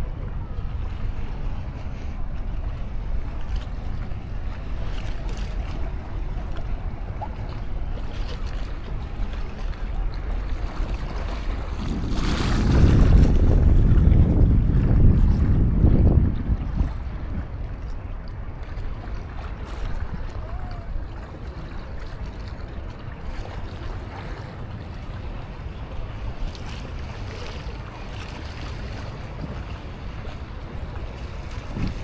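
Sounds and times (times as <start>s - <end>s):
wind noise on microphone: 0.0s - 22.1s, 25.0s - 32.0s
surf washing: 0.0s - 32.0s.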